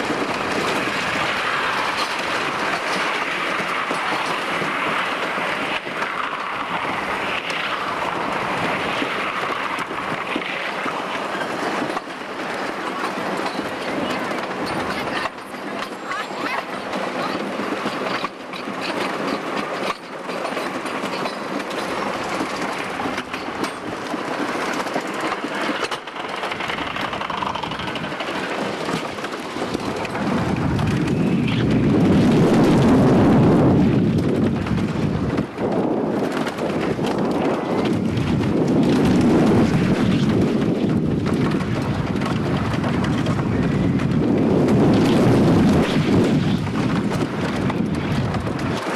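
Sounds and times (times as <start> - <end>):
roller coaster on wooden track: 0.0 - 48.9.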